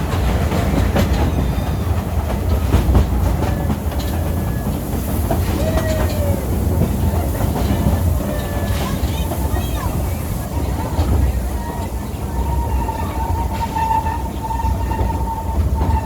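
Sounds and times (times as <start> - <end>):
train low rumble: 0.0 - 16.0
wheels clicking over rail joints: 0.0 - 16.0.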